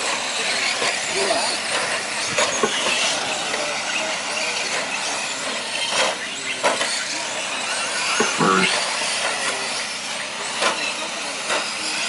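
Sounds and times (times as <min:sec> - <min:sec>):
rc trucks racing: 0:00.0 - 0:12.0.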